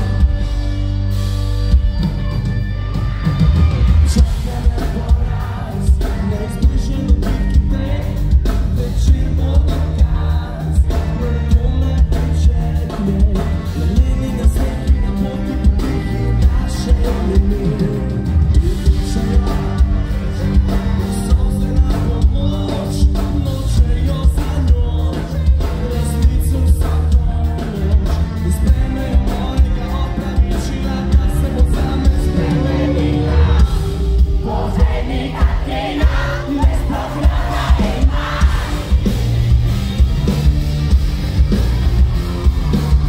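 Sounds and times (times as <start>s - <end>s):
live rock band playing: 0.0s - 43.0s
person singing lead vocal: 3.5s - 39.3s.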